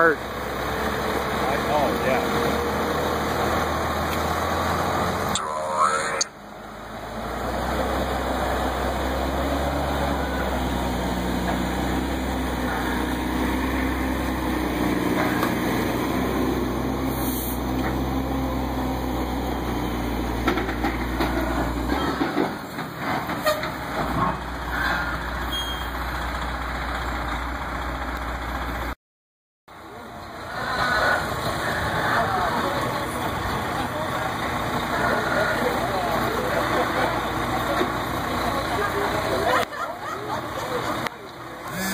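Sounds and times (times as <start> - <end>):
heavy truck engine under load: 0.0 - 29.0, 29.7 - 41.9.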